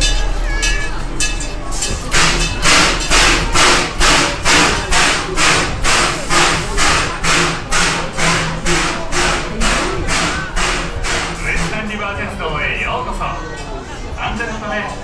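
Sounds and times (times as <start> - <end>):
steam locomotive chuffing: 0.0 - 15.0.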